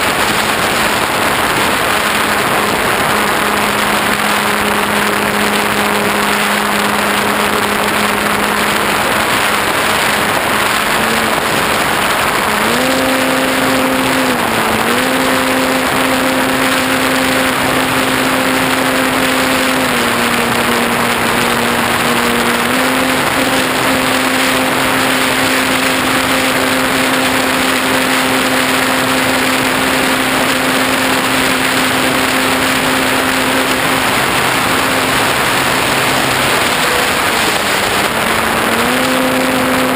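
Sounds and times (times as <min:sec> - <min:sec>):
model plane motor whining: 0:00.0 - 0:39.9
rush of air: 0:00.0 - 0:39.9.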